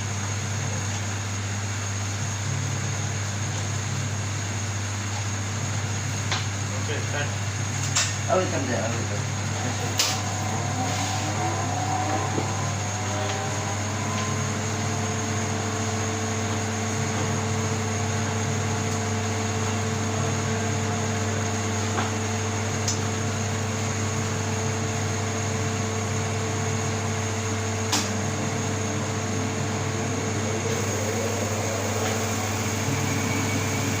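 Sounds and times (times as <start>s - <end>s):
oven fan motor humming: 0.0s - 34.0s.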